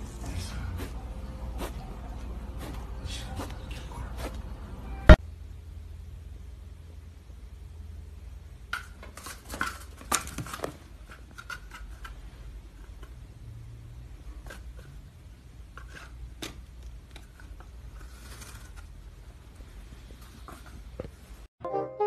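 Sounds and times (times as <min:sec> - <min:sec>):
low steady hum: 0:00.0 - 0:21.5.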